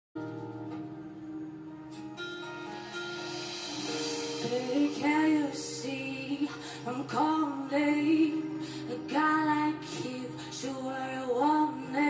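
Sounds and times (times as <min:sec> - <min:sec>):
live band playing sustained chords: 0:00.2 - 0:11.2.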